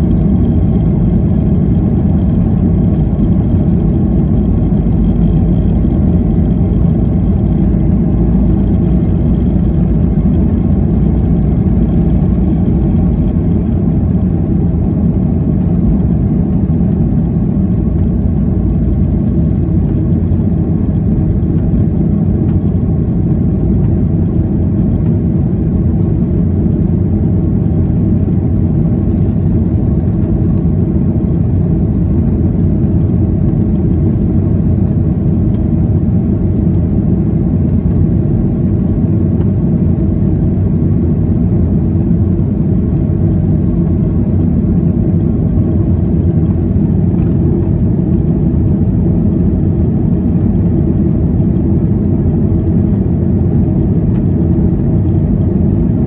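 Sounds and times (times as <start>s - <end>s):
jet engine drone inside cabin: 0.0s - 56.0s.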